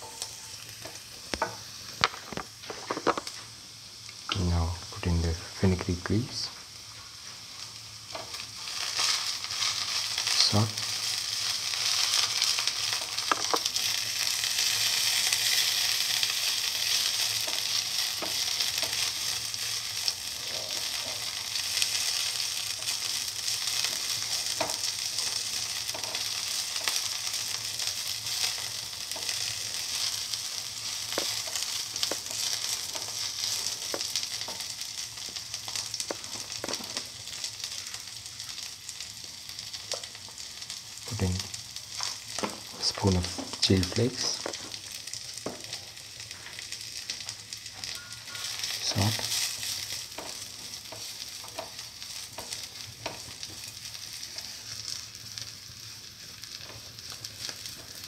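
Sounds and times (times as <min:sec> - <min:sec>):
vegetables sizzling in hot oil: 0:00.0 - 0:58.0.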